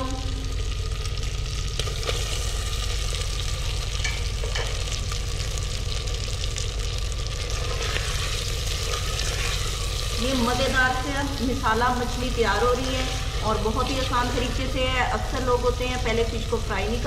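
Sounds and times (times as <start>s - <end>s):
masala sizzling in a clay pot: 0.0s - 17.0s.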